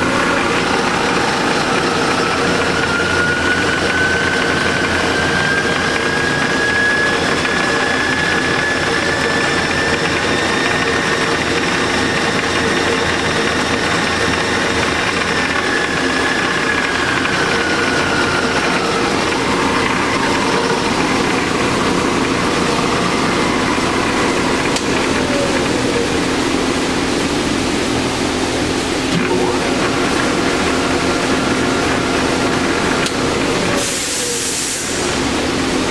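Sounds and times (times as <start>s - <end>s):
metal lathe hum and whine: 0.0s - 35.9s.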